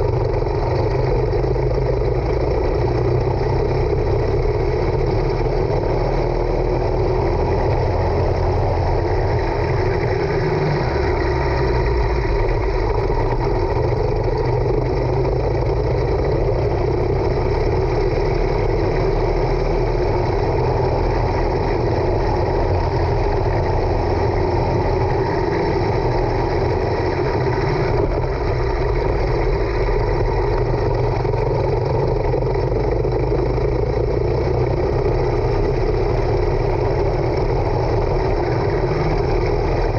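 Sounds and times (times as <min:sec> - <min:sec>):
go-kart engine droning: 0:00.0 - 0:39.9.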